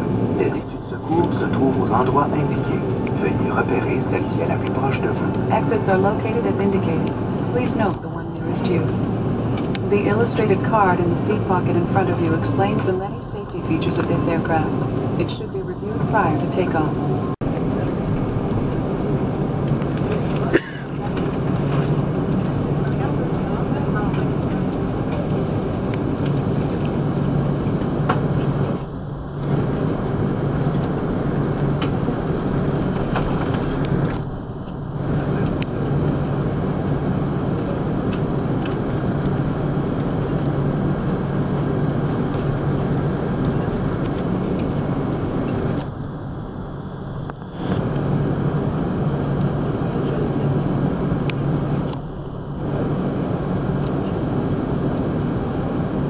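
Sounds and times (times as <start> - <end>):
aircraft engines at taxi power: 0.0 - 56.0
cabin air-conditioning: 0.0 - 56.0
steady low hum: 0.0 - 56.0.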